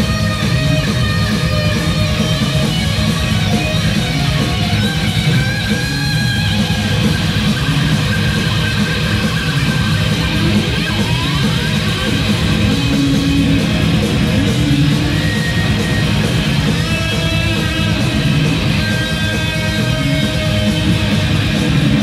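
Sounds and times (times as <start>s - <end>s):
heavy metal band playing: 0.0s - 22.0s
rising guitar slide: 0.0s - 22.0s.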